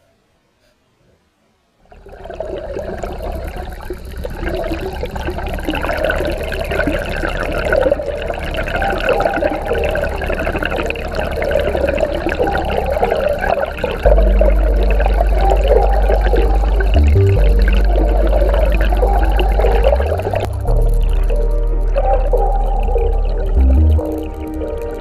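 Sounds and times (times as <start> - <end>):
water rushing and bubbling: 1.9 - 25.0
low hum: 2.0 - 25.0.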